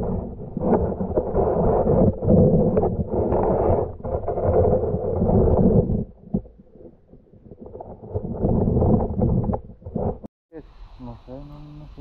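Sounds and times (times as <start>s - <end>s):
muffled underwater rumble: 0.0s - 10.3s.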